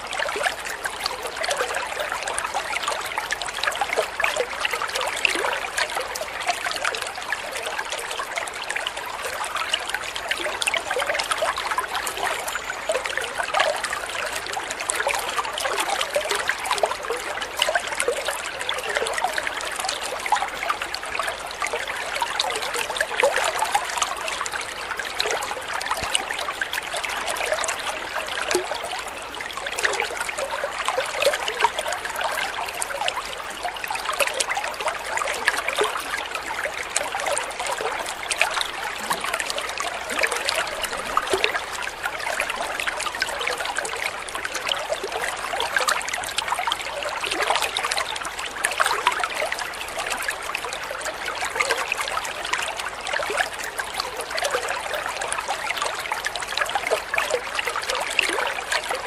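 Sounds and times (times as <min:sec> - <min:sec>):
water trickling into pond: 0:00.0 - 0:59.0.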